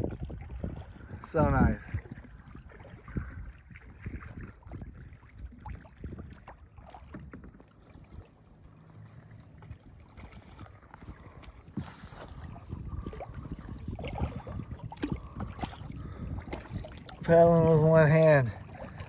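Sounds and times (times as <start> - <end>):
paddle splashing in water: 0.0 - 19.0.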